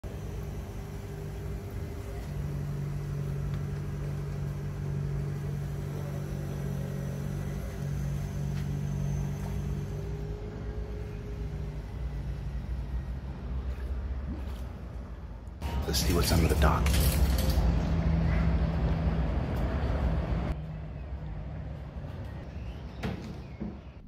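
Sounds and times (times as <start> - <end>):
engine idling: 0.0 - 22.4.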